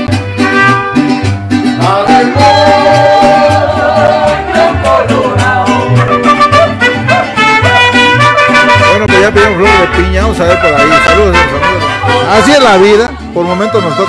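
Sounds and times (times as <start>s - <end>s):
bass beat: 0.0s - 14.0s.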